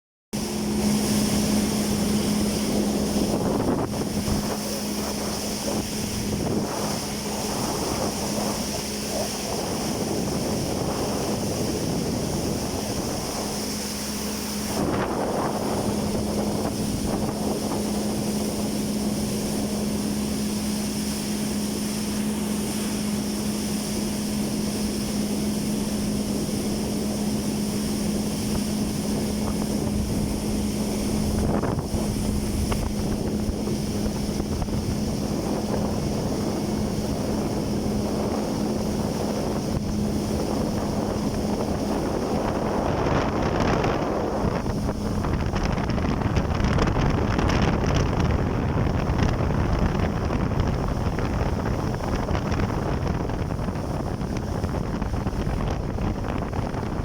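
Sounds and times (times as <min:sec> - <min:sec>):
jet ski engine running: 0:00.4 - 0:57.0
wind rushing over microphone: 0:00.4 - 0:57.0.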